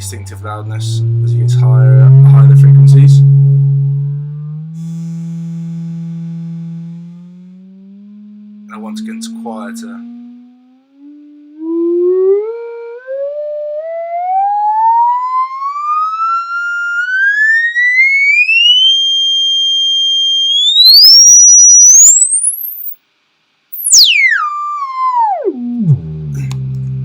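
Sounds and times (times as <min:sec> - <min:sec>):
sine-wave test tone sweep: 0:00.0 - 0:23.0, 0:23.7 - 0:27.0.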